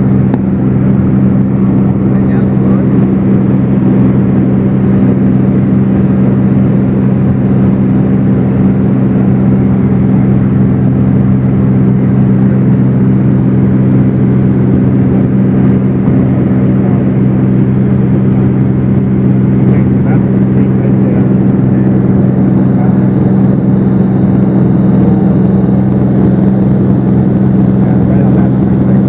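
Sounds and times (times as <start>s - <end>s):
propeller plane engine droning: 0.0s - 29.0s.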